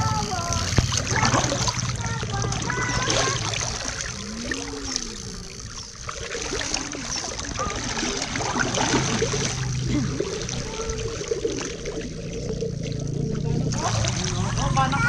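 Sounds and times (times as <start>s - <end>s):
river water trickling: 0.0s - 15.0s
water sloshing around wading person: 0.0s - 15.0s.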